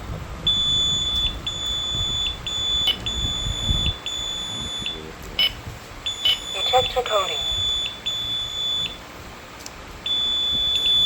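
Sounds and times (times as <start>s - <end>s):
high-pitched fire alarm beep: 0.4s - 9.0s, 10.0s - 11.0s.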